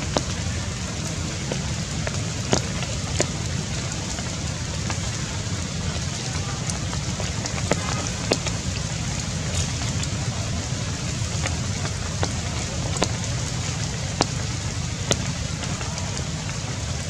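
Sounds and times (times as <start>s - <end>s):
rain patter: 0.0s - 17.0s.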